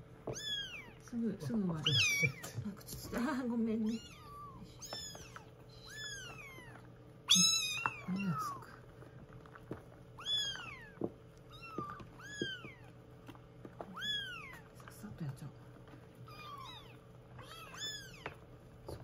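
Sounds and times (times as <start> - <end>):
kittens mewing: 0.2 - 8.9, 10.0 - 13.1, 13.7 - 14.8, 16.1 - 19.0.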